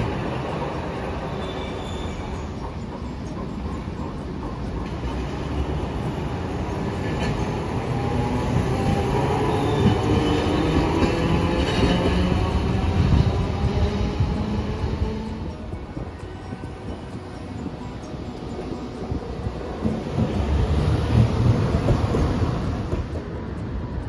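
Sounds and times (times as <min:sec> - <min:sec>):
streetcar motor whine: 0:00.0 - 0:24.0
streetcar wheels rumbling on rails: 0:00.0 - 0:24.0.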